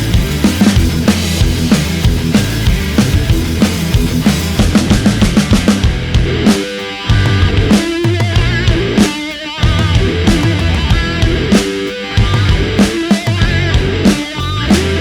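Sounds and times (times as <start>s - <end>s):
heavy metal music: 0.0s - 15.0s
wavering guitar lead: 0.0s - 15.0s.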